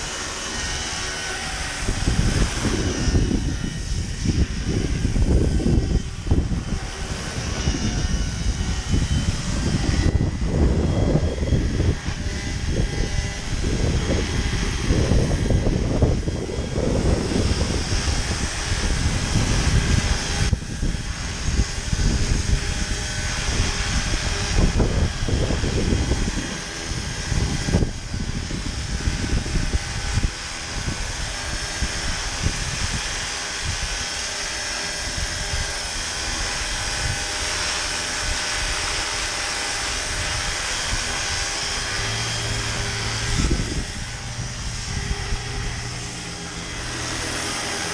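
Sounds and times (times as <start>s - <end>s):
rc helicopter whine: 0.0s - 47.9s
wind buffeting microphone: 0.0s - 47.9s.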